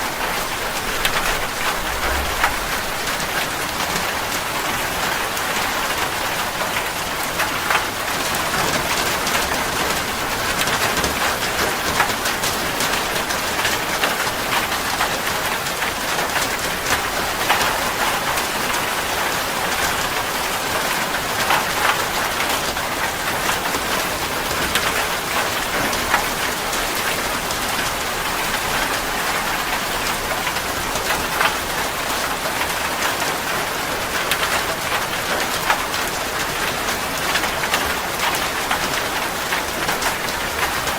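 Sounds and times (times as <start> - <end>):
heavy rain on a surface: 0.0 - 40.9.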